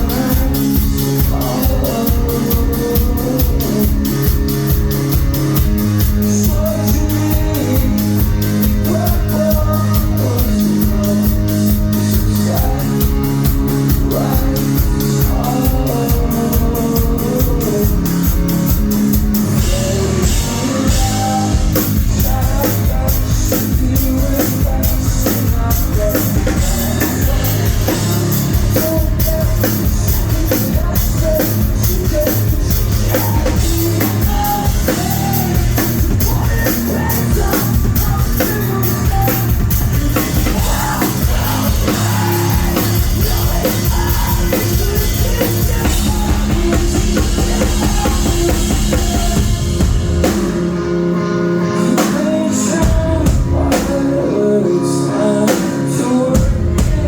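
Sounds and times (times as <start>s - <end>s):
drum kit beat: 0.0s - 54.3s, 55.4s - 57.0s
electric guitars: 0.0s - 57.0s
person singing: 0.0s - 57.0s
rock band playing: 0.0s - 57.0s.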